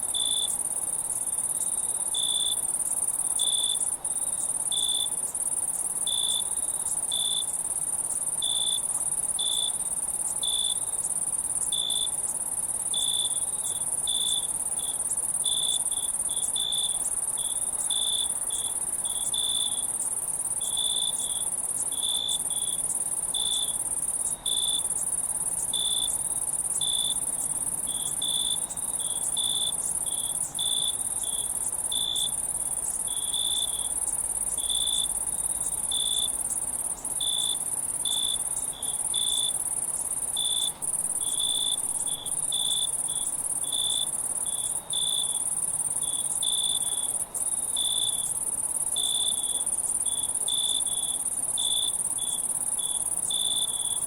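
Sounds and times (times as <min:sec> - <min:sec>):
insects trilling: 0:00.0 - 0:54.0
lower insect chirp: 0:00.0 - 0:54.0.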